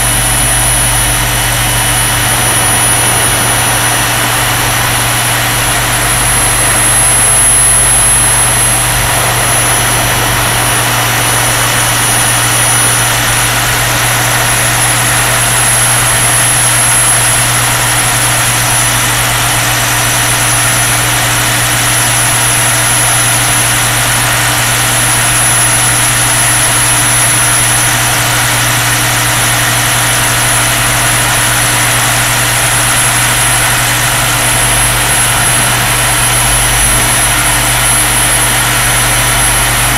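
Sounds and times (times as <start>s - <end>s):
model helicopter drone: 0.0s - 39.9s
thin high whine: 0.0s - 39.9s.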